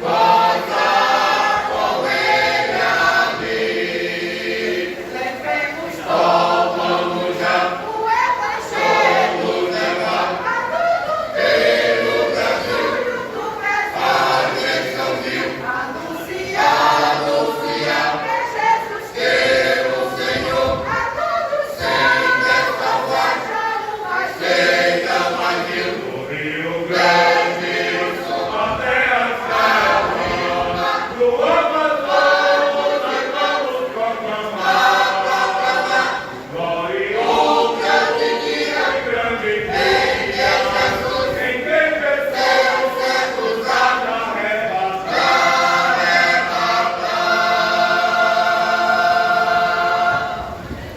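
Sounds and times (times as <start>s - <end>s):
church choir singing a hymn: 0.0s - 50.9s.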